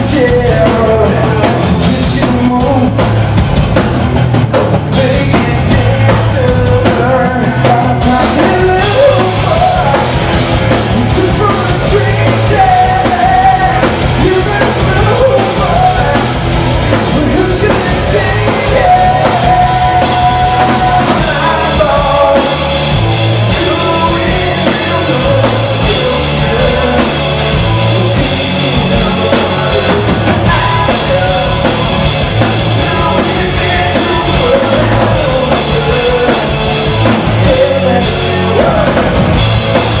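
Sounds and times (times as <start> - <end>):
lead vocal singing: 0.0 - 3.6, 4.6 - 40.0
rock band playing: 0.0 - 40.0.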